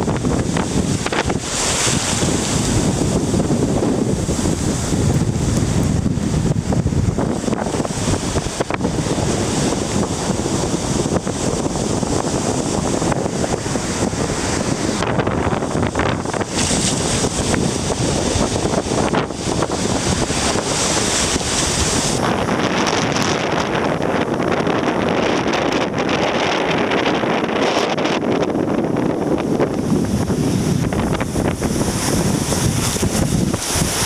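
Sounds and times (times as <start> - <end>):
rushing water and surf: 0.0 - 34.0
strong wind buffeting microphone: 0.0 - 34.0.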